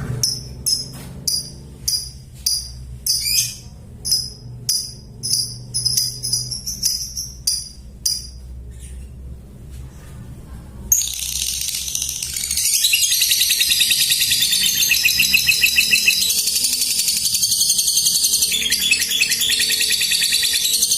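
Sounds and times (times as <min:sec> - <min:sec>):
bird chirping: 0:00.3 - 0:09.2, 0:10.9 - 0:20.9.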